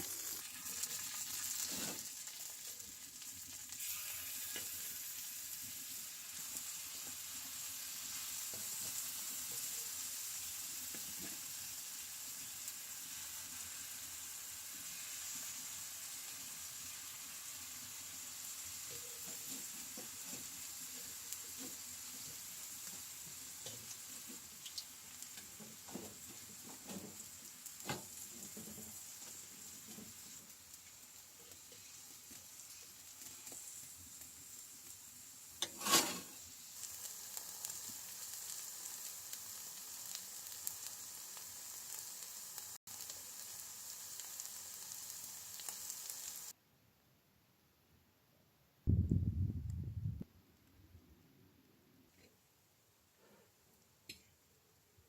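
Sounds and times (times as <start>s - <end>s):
food sizzling in a pan: 0.0s - 46.6s.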